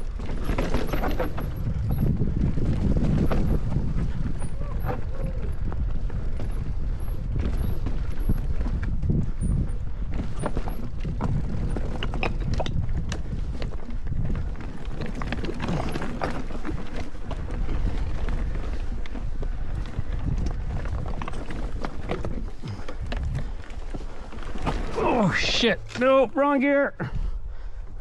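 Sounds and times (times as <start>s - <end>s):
bike knocking and clicking: 0.0s - 25.0s
tyres rumbling on dirt: 0.0s - 27.2s.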